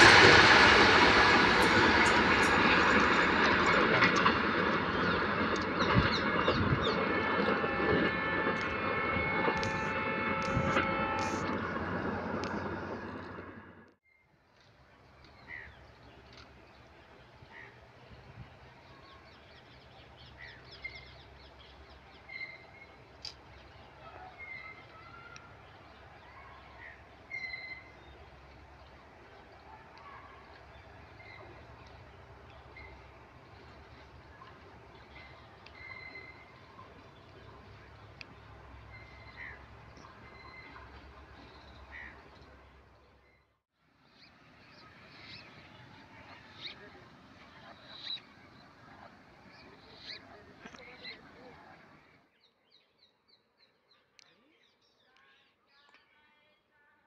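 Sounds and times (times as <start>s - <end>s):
distant train rumble: 0.0s - 14.0s, 14.6s - 43.3s, 43.9s - 52.3s.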